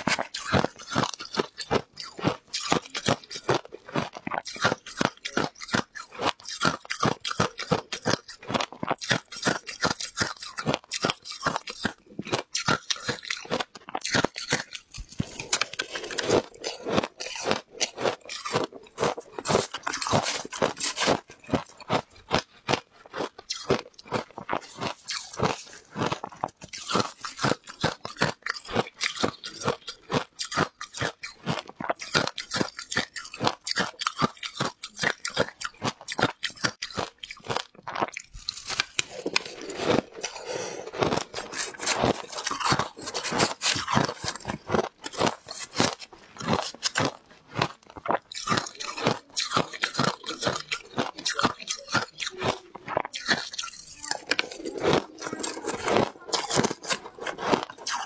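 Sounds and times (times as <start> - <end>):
ice crunching in mouth: 0.0 - 58.0.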